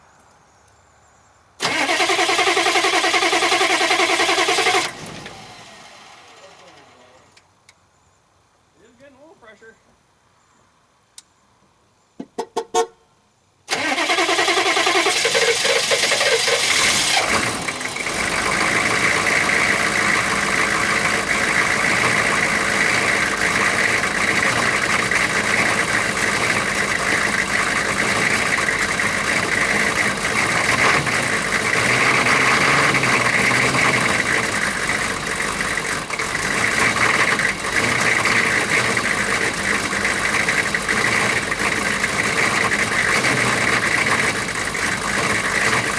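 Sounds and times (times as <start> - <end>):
diesel engine starting and running: 1.6 - 7.5, 13.6 - 45.9.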